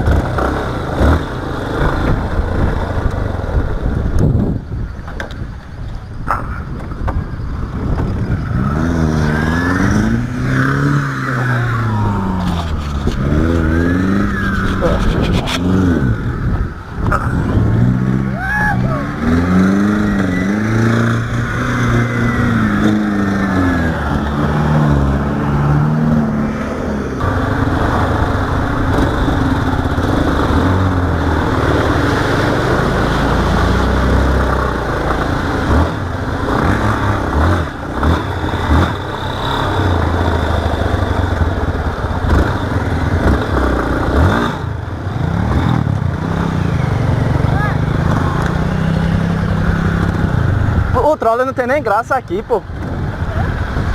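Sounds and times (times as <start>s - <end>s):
motorcycle engine revving: 0.0s - 4.7s, 7.6s - 51.0s
wind noise: 0.0s - 51.1s, 52.6s - 53.9s.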